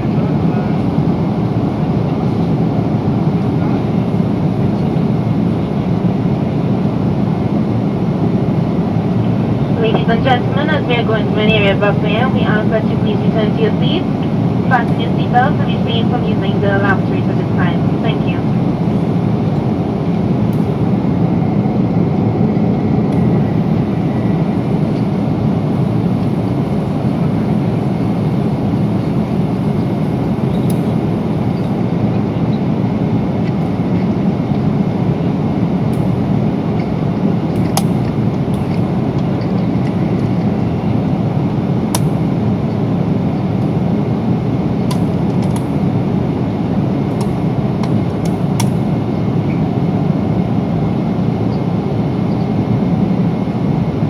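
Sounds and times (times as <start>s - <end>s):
airflow over fuselage: 0.0s - 54.0s
jet engine cabin roar: 0.0s - 54.0s.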